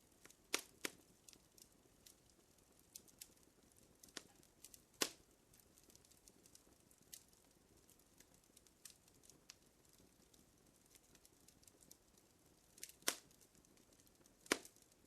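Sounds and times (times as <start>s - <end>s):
faint hiss: 0.0s - 15.0s
fire crackling: 0.0s - 15.0s.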